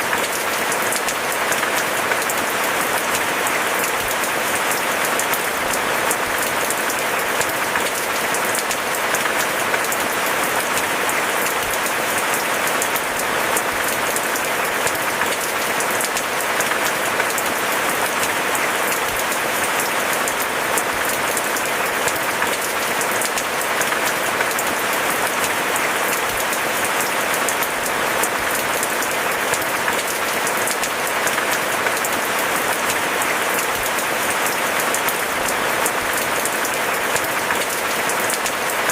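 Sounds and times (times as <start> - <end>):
steady dense rainfall: 0.0 - 38.9.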